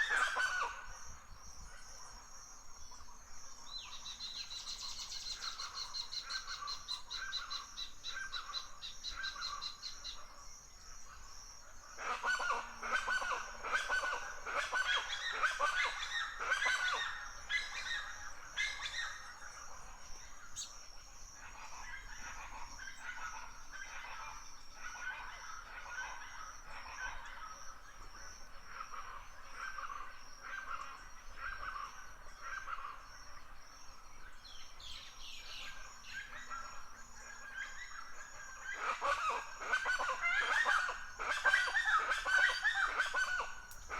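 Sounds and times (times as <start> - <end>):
wild birds calling and singing: 0.0 - 43.9.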